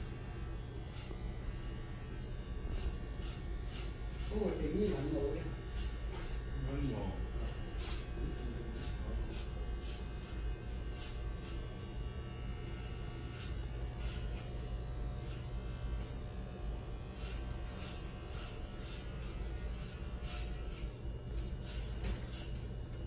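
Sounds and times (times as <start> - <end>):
electric hair clippers buzzing: 0.0 - 23.0.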